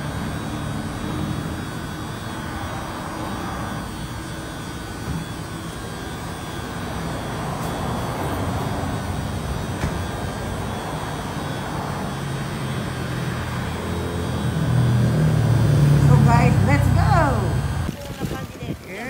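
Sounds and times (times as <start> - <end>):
machinery hum and rumble: 0.0 - 19.0.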